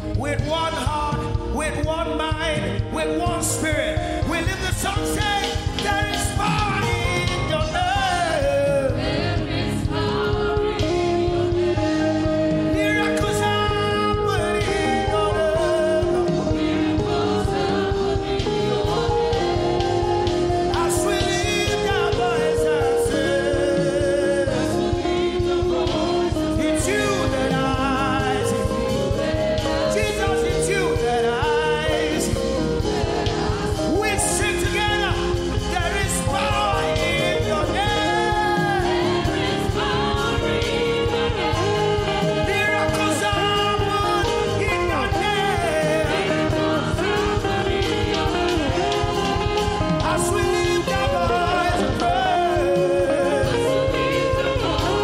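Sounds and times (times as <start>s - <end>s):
amplified band playing: 0.0s - 55.0s
singers singing into microphones: 0.0s - 55.0s.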